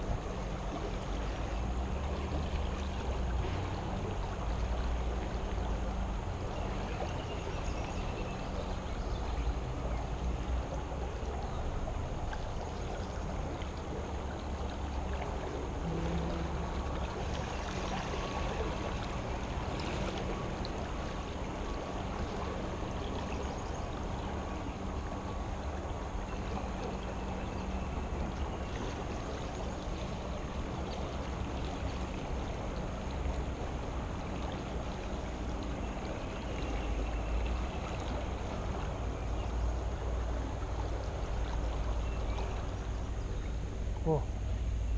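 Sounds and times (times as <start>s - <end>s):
creek water rushing: 0.0s - 44.9s.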